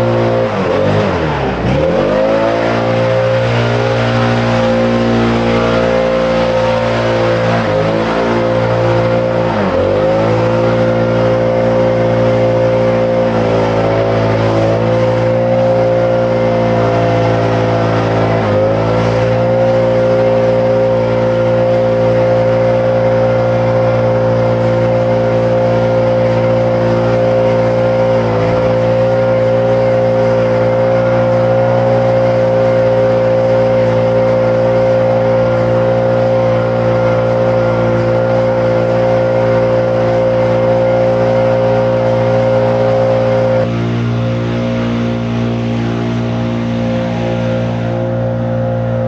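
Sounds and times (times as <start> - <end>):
small engine whining at high throttle: 0.0 - 49.0.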